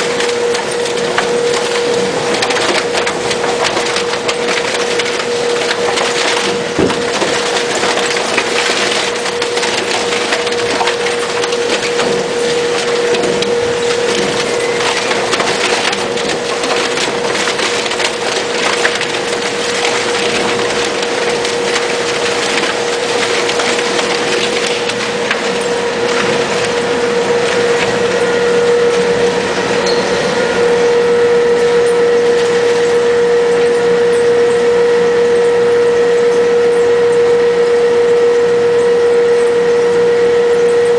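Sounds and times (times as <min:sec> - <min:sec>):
machine motor hum: 0:00.0 - 0:40.9
polystyrene crackling and crunching: 0:00.0 - 0:40.9.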